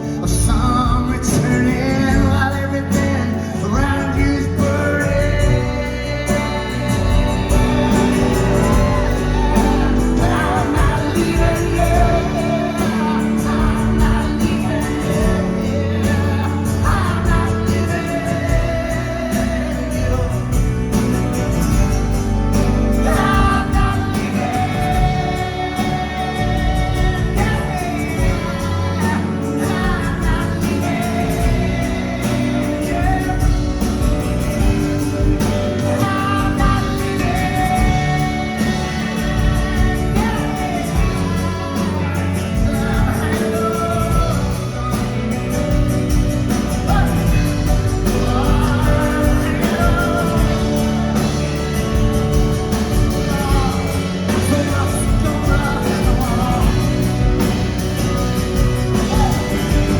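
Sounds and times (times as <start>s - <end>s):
live band with wordless singing: 0.0s - 59.9s.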